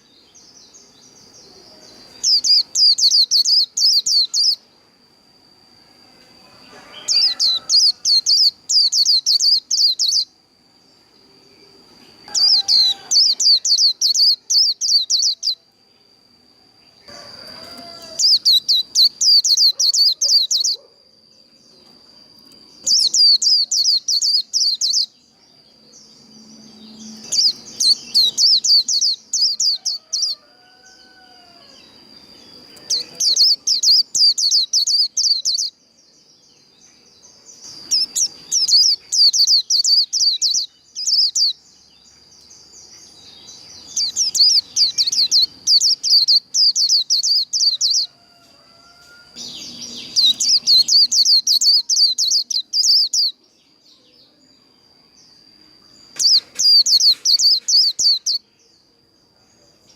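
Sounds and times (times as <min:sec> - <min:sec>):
bird trilling song: 0:00.0 - 0:04.7, 0:06.6 - 0:10.4, 0:11.5 - 0:15.6, 0:16.8 - 0:58.9.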